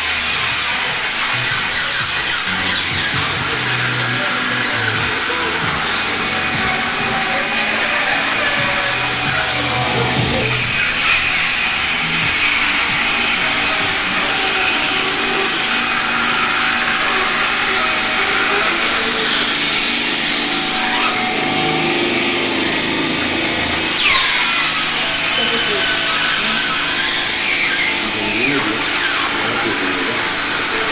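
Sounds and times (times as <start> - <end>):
band saw cutting plastic: 0.0 - 30.9.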